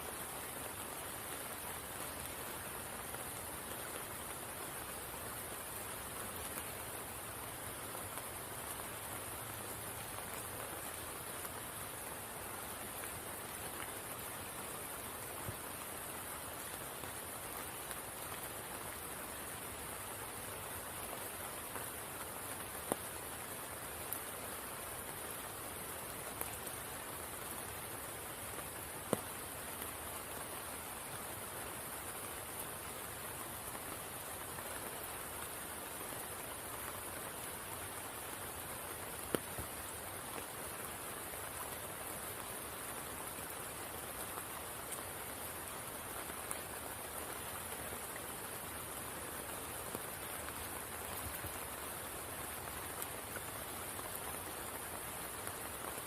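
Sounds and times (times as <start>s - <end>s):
high steady hiss: 0.0s - 56.0s
rain patter on water and leaves: 0.0s - 56.0s.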